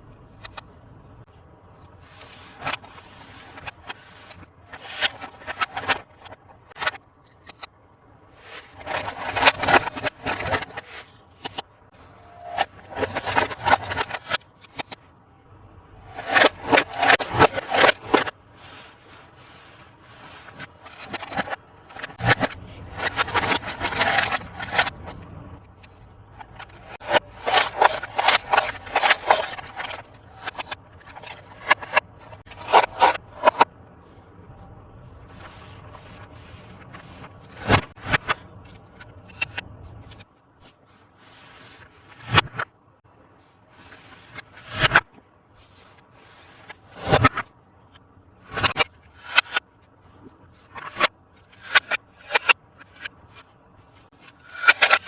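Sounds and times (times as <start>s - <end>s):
hands scraping plastic toy truck: 1.8s - 7.7s, 8.3s - 15.0s, 15.9s - 33.9s, 35.2s - 42.7s, 43.7s - 55.0s.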